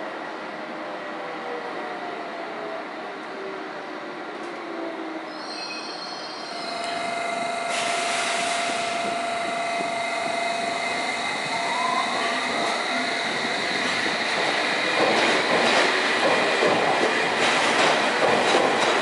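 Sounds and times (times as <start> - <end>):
train rumble and whine: 0.0 - 19.0.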